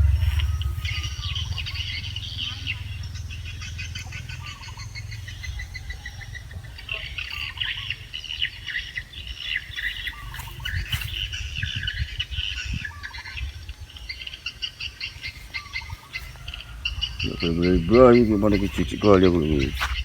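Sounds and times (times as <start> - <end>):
low rumble on microphone: 0.0 - 7.6, 9.1 - 14.2, 15.3 - 20.0
small birds chirping: 0.0 - 20.0.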